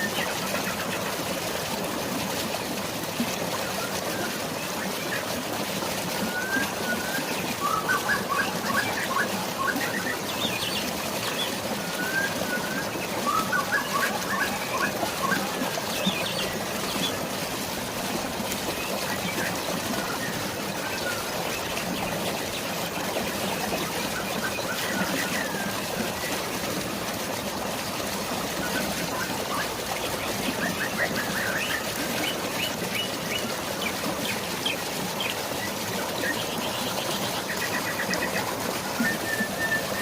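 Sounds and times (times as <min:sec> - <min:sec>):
rain and rushing water: 0:00.0 - 0:40.0.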